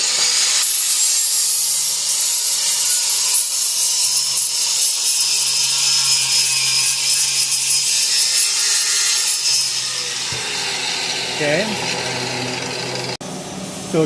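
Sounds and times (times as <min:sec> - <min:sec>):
angle grinder grinding metal: 0:00.0 - 0:13.2.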